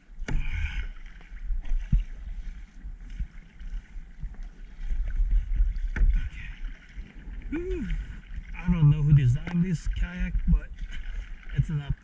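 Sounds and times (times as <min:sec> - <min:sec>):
paddle splashing water: 0:00.0 - 0:12.0
wind rumble on microphone: 0:00.0 - 0:12.0.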